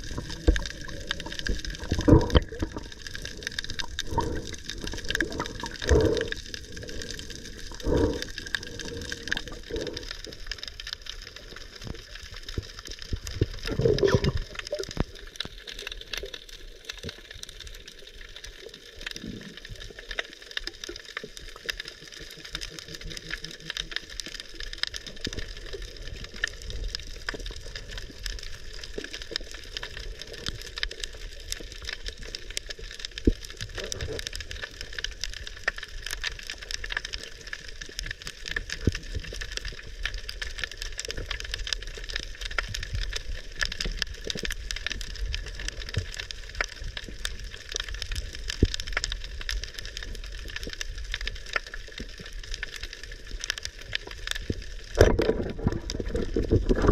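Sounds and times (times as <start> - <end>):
underwater crackle of clicks: 0.0 - 56.9
water swishes: 0.0 - 56.9.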